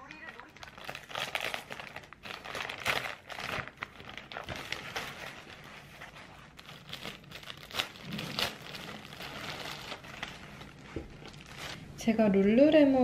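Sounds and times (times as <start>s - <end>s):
plastic bag crinkling: 0.0s - 12.1s
plastic mailer bag tearing: 0.1s - 11.9s.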